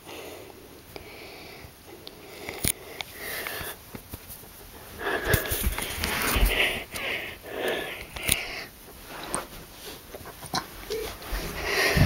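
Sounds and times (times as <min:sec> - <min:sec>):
close sniffing and breathing: 0:00.0 - 0:12.0.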